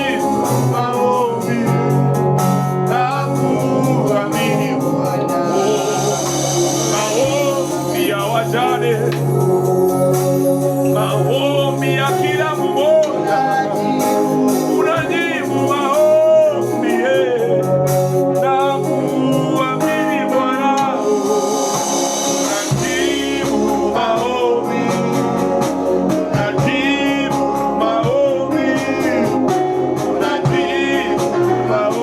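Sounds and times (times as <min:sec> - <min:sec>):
deep bass line: 0:00.0 - 0:32.0
person singing gospel song: 0:00.0 - 0:32.0.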